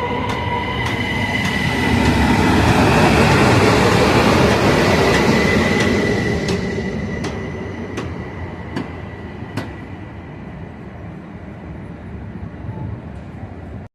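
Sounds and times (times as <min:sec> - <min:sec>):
train rumbling on rails: 0:00.0 - 0:13.9.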